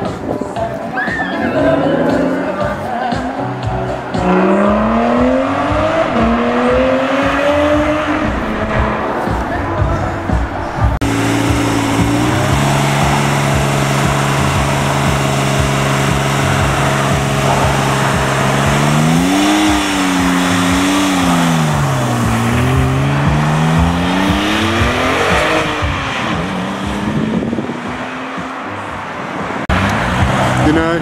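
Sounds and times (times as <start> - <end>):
car engine revving: 1.6 - 31.0.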